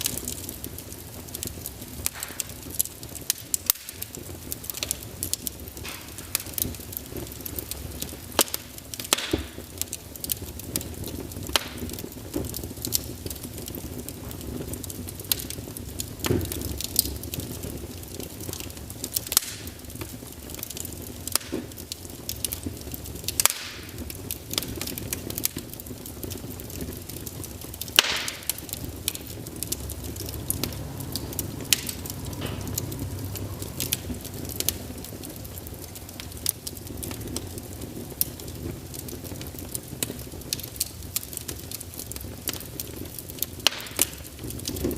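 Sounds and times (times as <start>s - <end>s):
fire crackling and popping: 0.0s - 44.9s
low rumble of flame: 0.0s - 44.9s.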